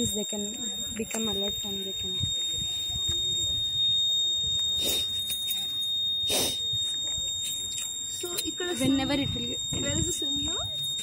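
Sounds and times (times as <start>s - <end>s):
electronic buzzer alarm: 0.0s - 11.0s.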